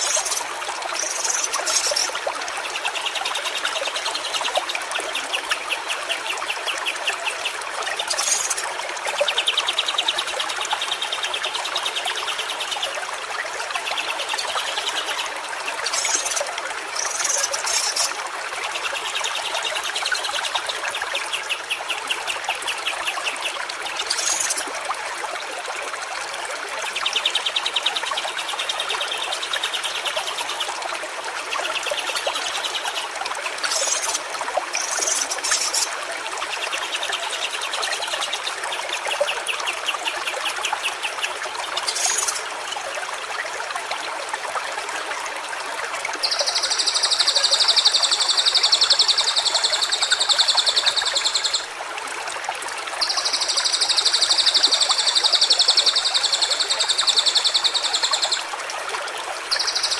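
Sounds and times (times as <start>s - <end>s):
stream trickling: 0.0s - 59.9s.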